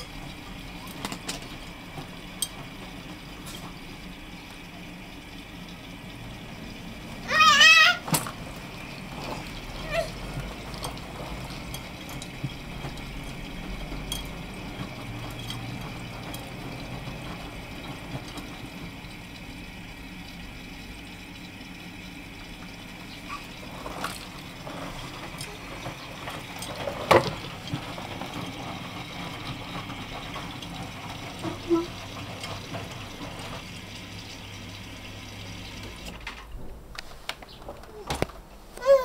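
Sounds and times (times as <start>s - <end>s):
washing machine filling: 0.0s - 39.0s.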